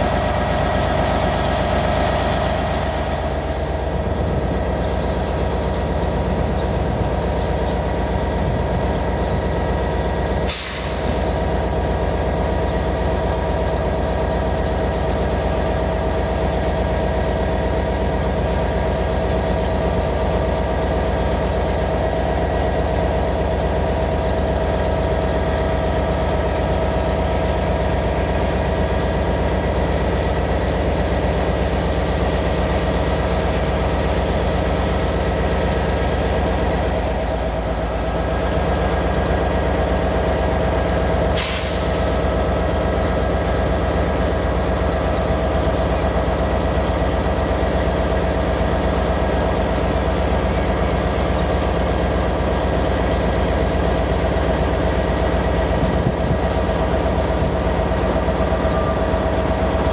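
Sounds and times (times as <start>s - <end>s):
diesel engine drone and whine: 0.0s - 59.9s.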